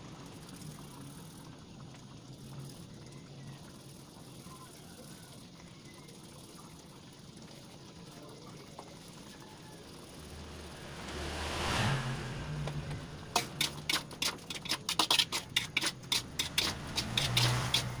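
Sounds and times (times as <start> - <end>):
sauce simmering in a wok: 0.0 - 18.0.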